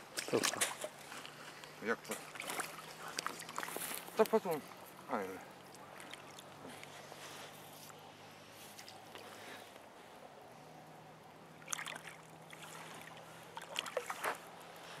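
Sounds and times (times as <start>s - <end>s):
faint steady hum: 0.0s - 15.0s
water splashing and sloshing: 0.0s - 15.0s.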